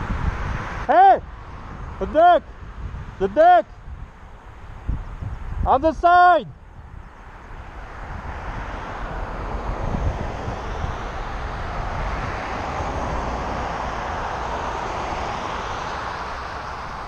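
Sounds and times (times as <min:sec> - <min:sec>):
highway traffic: 0:00.0 - 0:17.0
wind rushing on helmet: 0:00.0 - 0:17.0.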